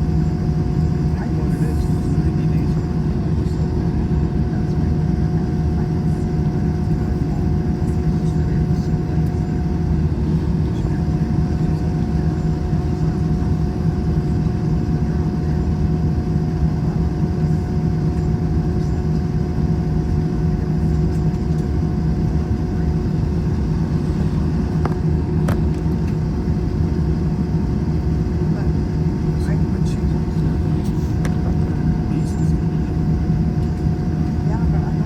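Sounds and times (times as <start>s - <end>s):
airliner cabin engine drone: 0.0s - 35.0s.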